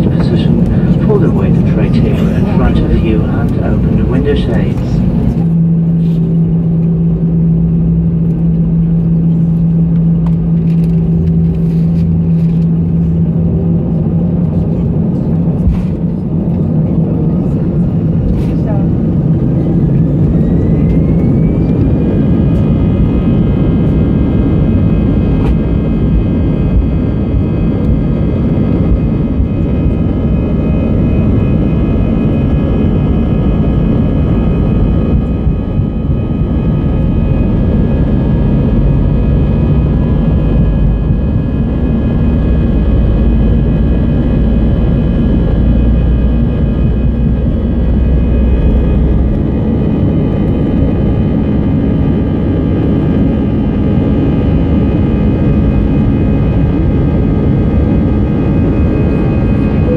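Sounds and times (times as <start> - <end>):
heavy low engine rumble: 0.0 - 59.9
jet engine whine: 0.0 - 59.9.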